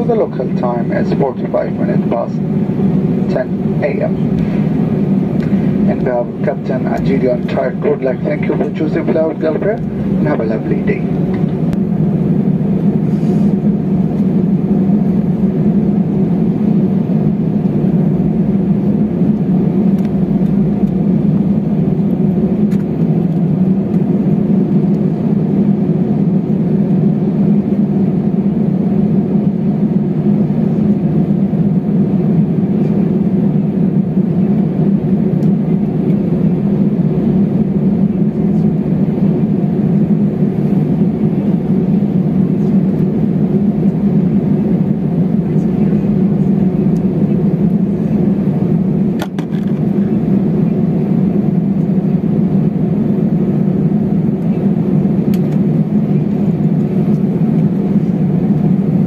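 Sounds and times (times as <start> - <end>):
airliner engines humming in cabin: 0.0 - 59.0.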